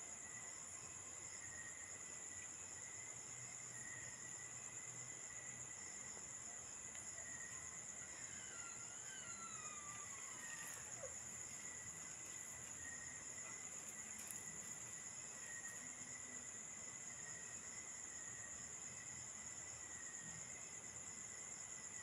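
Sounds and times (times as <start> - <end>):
crickets and insects trilling: 0.0 - 22.0.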